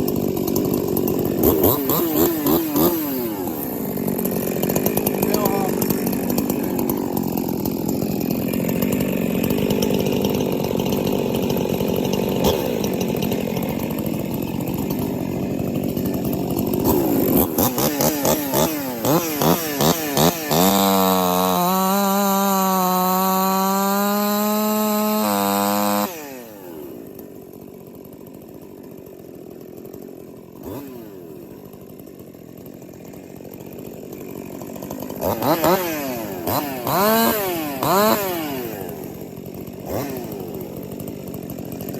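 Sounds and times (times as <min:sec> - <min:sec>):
chainsaw cutting wood: 0:00.0 - 0:41.9
chainsaw idling: 0:00.0 - 0:41.9
chainsaw revving: 0:00.0 - 0:41.9.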